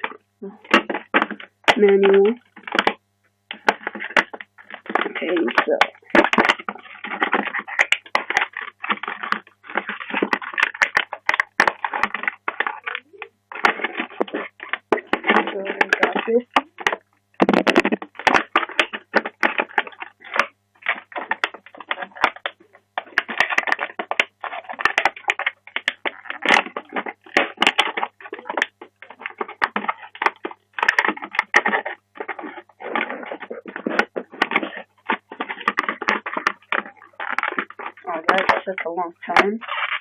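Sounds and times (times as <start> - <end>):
plastic packaging crackling: 0.0 - 40.0.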